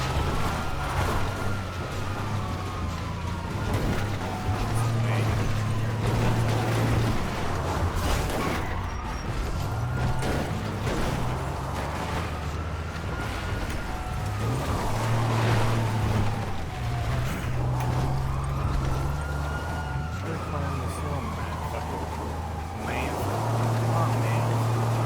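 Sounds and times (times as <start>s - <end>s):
car engine running: 0.0s - 25.0s
police siren wailing: 0.0s - 25.0s.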